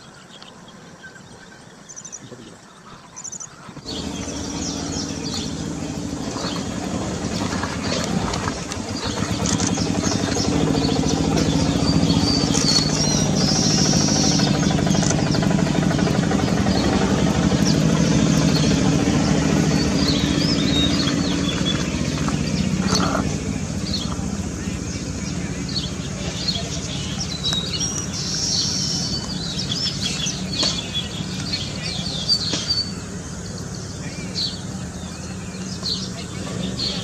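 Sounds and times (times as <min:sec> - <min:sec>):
high bird chirps: 0:00.0 - 0:37.0
engine running steadily: 0:03.8 - 0:37.0.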